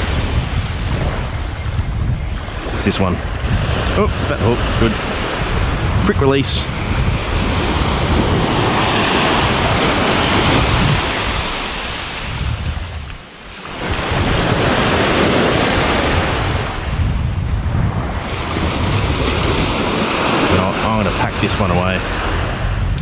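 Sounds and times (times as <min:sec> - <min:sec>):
small waves breaking on beach: 0:00.0 - 0:01.8, 0:02.4 - 0:17.0, 0:17.8 - 0:22.8
wind buffeting microphone: 0:00.0 - 0:23.0.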